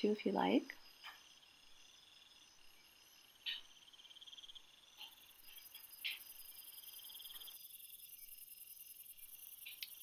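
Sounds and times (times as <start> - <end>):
crickets chirping: 0.0 - 10.0
high insect trill: 0.2 - 10.0.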